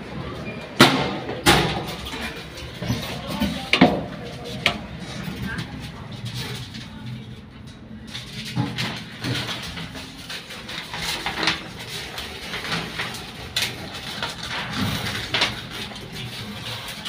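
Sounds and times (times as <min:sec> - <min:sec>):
elevator hum: 0:00.0 - 0:17.0.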